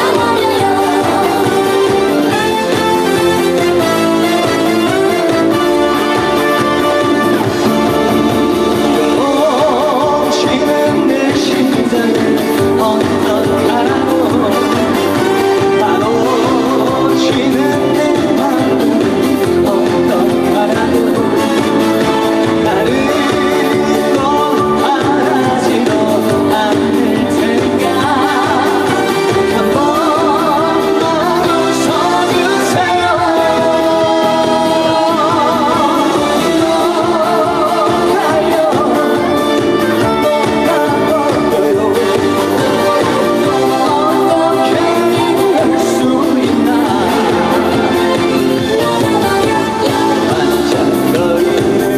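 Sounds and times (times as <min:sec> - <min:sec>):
instrumental accompaniment: 0:00.0 - 0:51.9
man singing: 0:00.0 - 0:51.9.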